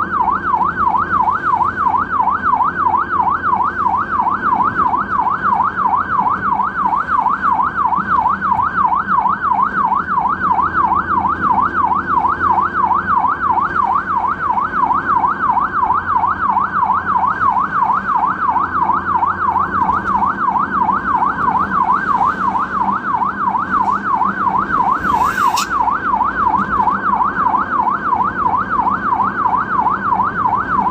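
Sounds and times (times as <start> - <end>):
ambulance siren yelping: 0.0 - 30.9
low vehicle rumble: 0.0 - 30.9.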